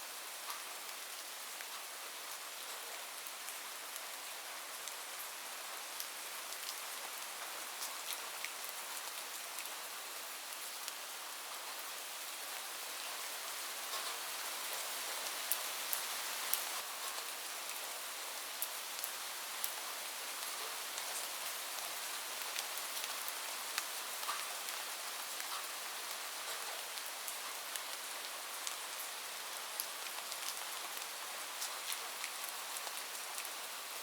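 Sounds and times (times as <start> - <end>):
rain falling on a roof: 0.0 - 34.0.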